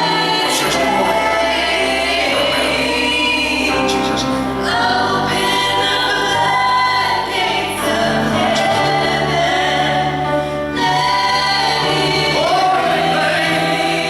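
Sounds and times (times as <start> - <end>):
band playing gospel music: 0.0 - 14.0
choir singing: 0.0 - 14.0.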